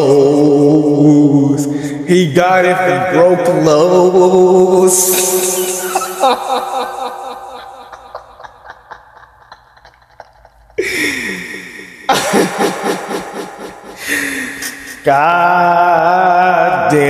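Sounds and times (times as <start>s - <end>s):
man making wordless vocal sounds: 0.0s - 8.4s, 10.8s - 17.0s.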